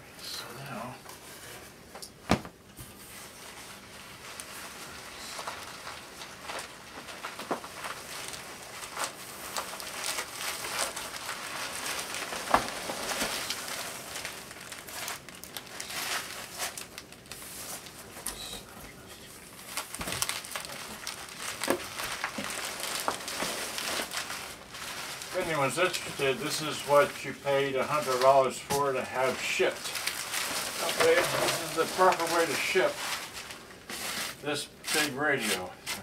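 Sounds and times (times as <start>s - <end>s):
packing material rustling and crinkling: 1.1s - 36.0s.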